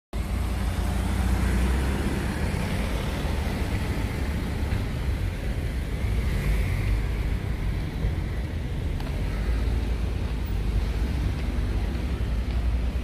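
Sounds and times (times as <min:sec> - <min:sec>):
traffic rumble: 0:00.1 - 0:13.0.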